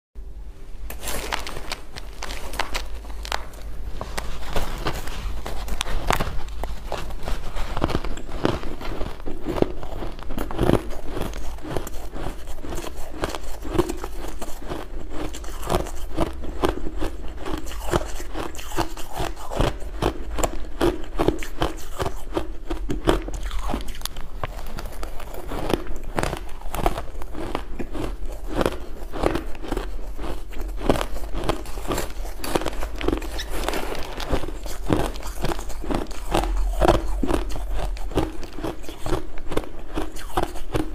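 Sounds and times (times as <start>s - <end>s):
chewing crunchy ice: 0.9s - 40.9s.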